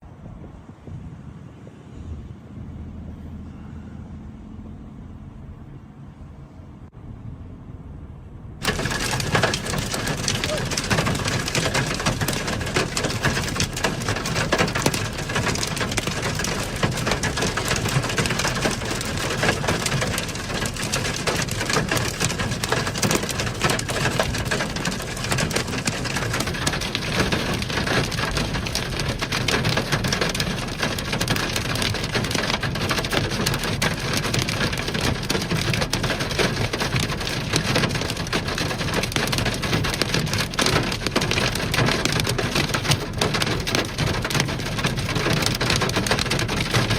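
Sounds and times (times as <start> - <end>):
heavy rain pelting down: 8.6 - 46.9.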